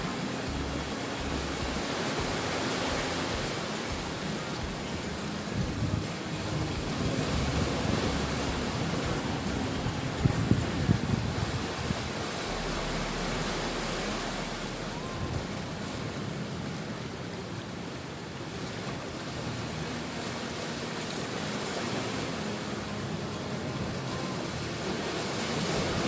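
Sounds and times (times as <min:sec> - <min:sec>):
waves breaking on shore: 0:00.0 - 0:26.0.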